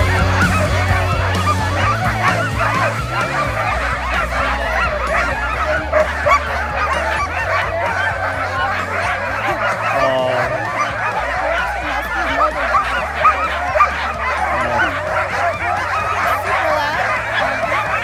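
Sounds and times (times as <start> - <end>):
dogs barking in chorus: 0.0 - 18.0.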